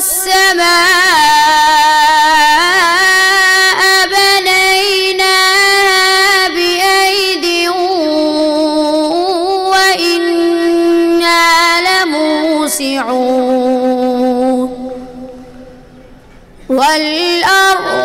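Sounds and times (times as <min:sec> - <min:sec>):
boy reciting melodically: 0:00.0 - 0:18.0.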